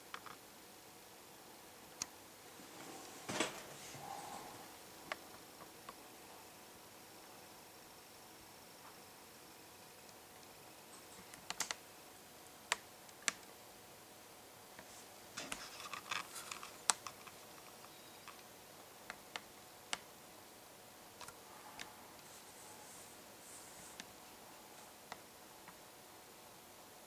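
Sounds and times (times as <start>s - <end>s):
faint room hiss: 0.0s - 27.0s.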